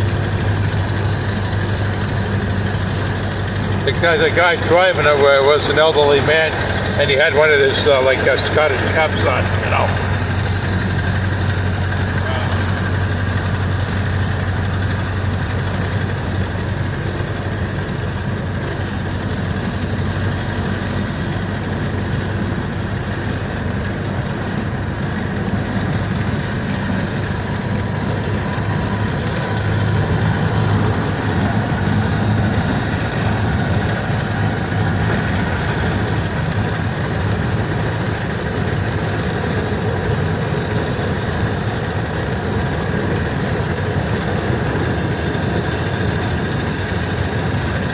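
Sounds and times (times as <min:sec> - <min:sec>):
car engine droning: 0:00.0 - 0:47.9
road noise: 0:00.0 - 0:47.9.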